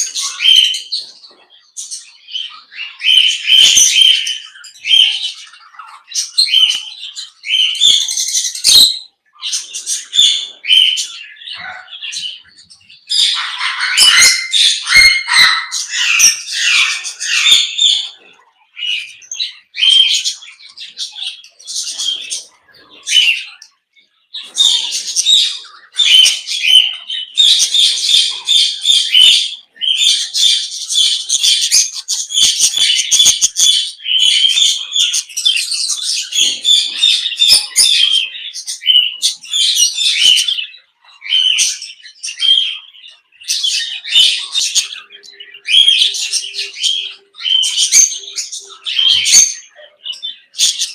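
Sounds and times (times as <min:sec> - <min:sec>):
parrots chirping and chattering: 0:00.0 - 0:50.9.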